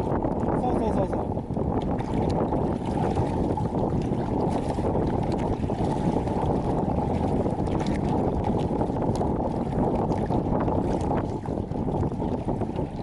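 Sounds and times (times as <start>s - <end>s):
faint water splashes: 0.0s - 13.0s
wind buffeting microphone: 0.0s - 13.0s.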